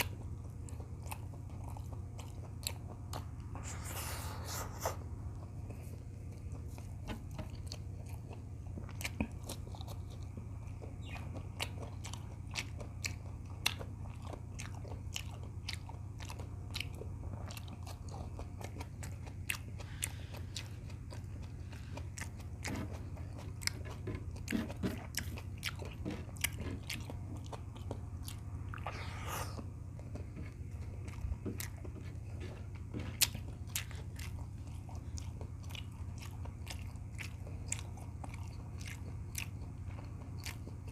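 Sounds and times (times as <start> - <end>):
person chewing food: 0.0 - 40.9
steady low hum: 0.0 - 40.9.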